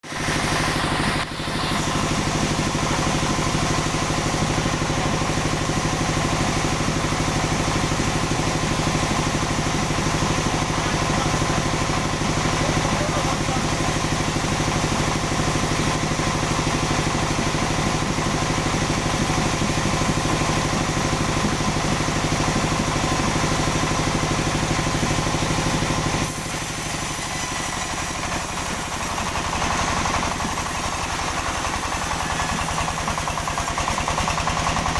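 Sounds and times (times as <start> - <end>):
sawmill engine running: 0.0 - 34.9.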